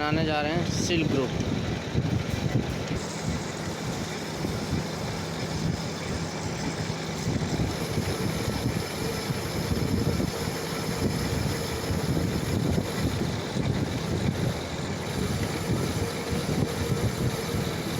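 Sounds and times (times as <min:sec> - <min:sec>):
lathe tool cutting metal: 0:00.0 - 0:17.9
metal lathe motor humming: 0:00.0 - 0:17.9.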